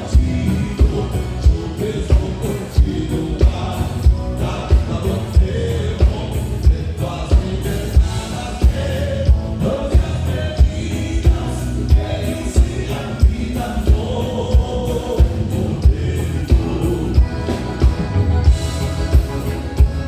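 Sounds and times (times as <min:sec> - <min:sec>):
live band with singing: 0:00.0 - 0:20.0.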